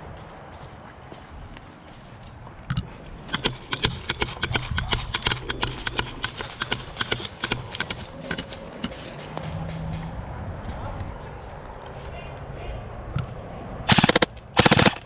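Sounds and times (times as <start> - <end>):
running footsteps: 0.0 - 15.0
gear rattling: 2.0 - 12.4, 13.1 - 15.0.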